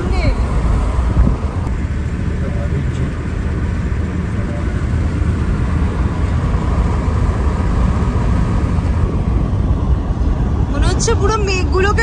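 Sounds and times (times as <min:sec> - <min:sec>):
car driving heard from cabin: 0:00.0 - 0:12.0.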